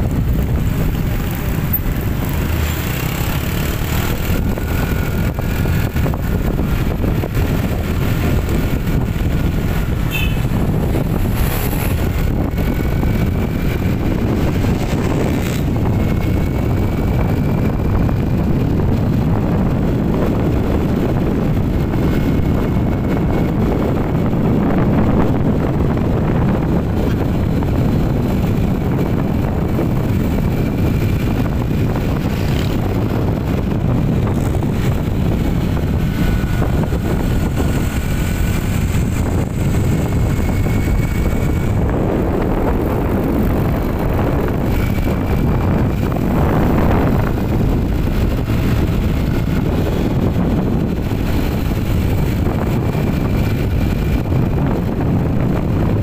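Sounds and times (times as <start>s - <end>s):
vehicle road noise rumble: 0.0s - 56.0s.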